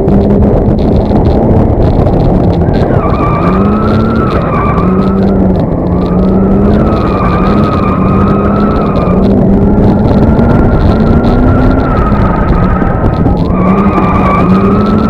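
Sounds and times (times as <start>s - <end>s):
car engines revving hard: 0.0s - 15.0s
tyres squealing: 2.6s - 15.0s.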